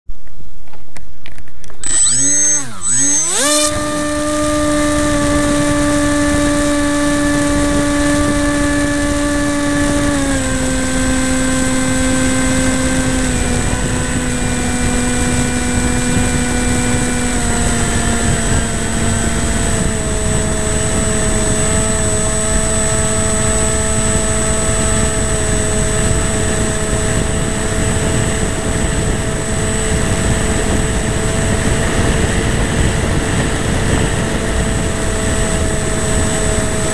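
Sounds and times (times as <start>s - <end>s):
model plane motor whine: 1.7s - 36.9s
rushing wind: 1.8s - 36.9s.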